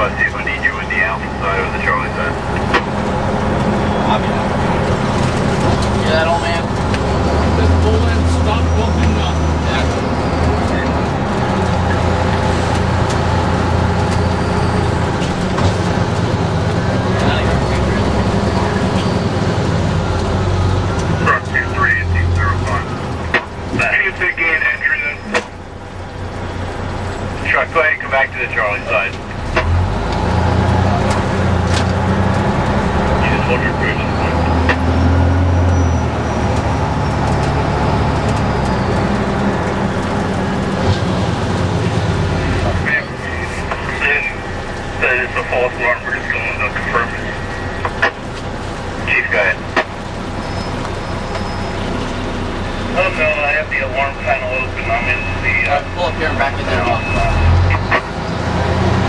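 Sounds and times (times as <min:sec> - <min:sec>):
truck engine and road rumble: 0:00.0 - 0:59.0.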